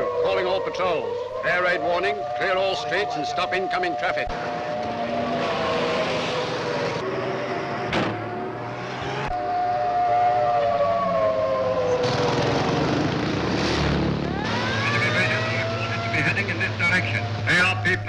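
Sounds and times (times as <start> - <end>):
air raid sirens: 0.0 - 18.0.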